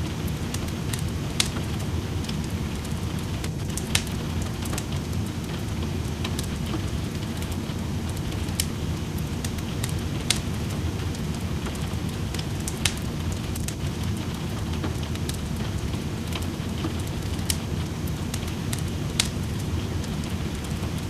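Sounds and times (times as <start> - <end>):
fireplace crackling and popping: 0.0 - 21.0
steady rain: 0.0 - 21.0.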